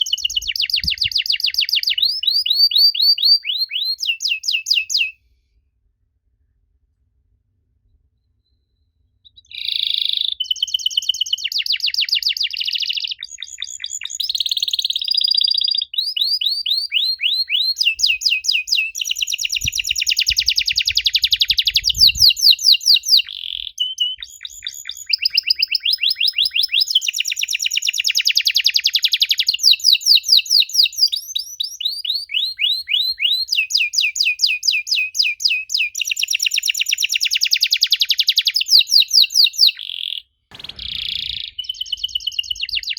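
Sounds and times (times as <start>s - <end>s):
canary singing trills: 0.0s - 5.2s, 9.2s - 42.9s.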